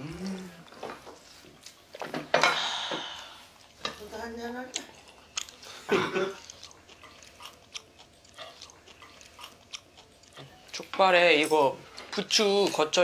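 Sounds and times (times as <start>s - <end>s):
chewing food: 0.0s - 13.0s.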